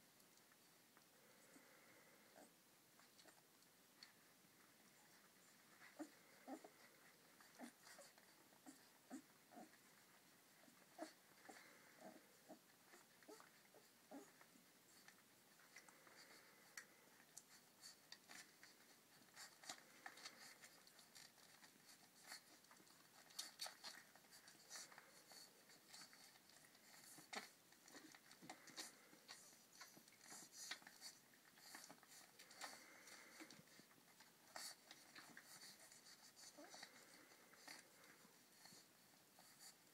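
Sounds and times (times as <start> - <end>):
puppies suckling: 0.2 - 39.9.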